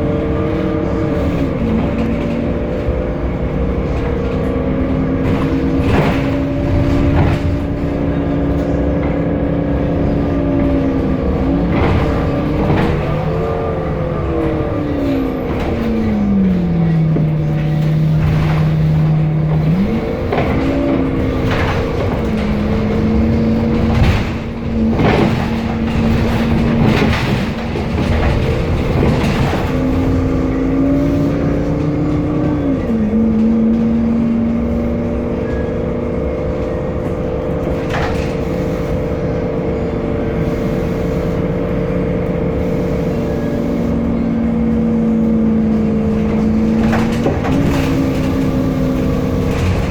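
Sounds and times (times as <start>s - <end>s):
rattles and knocks: 0.0s - 43.2s, 43.8s - 49.9s
bus engine humming: 0.0s - 49.9s
gearbox shifting: 0.0s - 49.9s
steady rumble: 0.0s - 49.9s.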